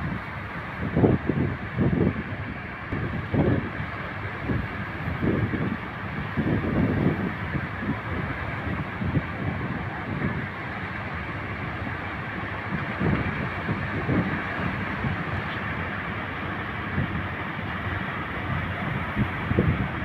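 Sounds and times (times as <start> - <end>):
ocean waves breaking: 0.0 - 20.0
wind buffeting microphone: 0.0 - 20.0.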